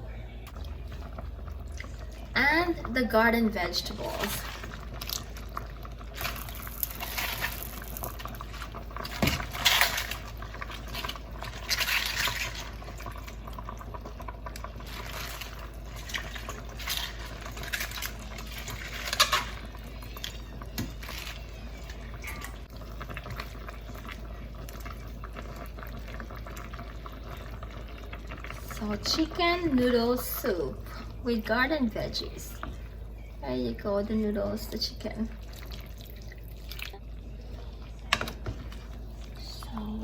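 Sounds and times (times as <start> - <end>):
soup bubbling in a pot: 0.0 - 40.0.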